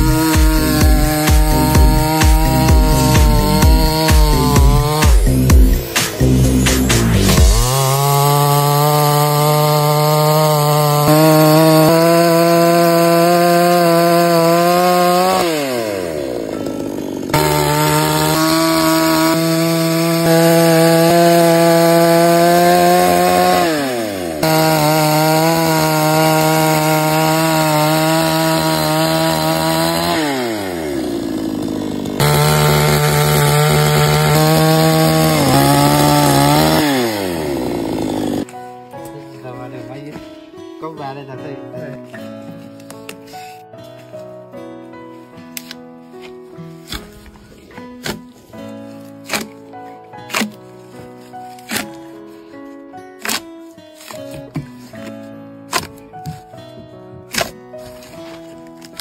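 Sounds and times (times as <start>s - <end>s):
chainsaw cutting log: 0.0s - 38.5s, 45.6s - 59.0s.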